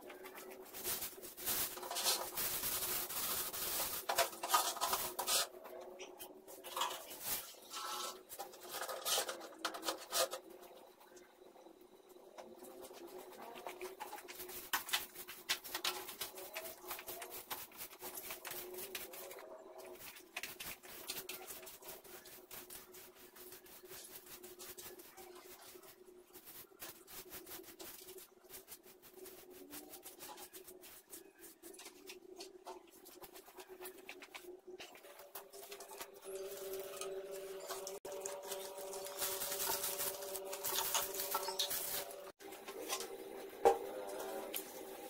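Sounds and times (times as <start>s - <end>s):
broom brushing tiled floor: 0.0s - 10.4s, 12.6s - 45.0s.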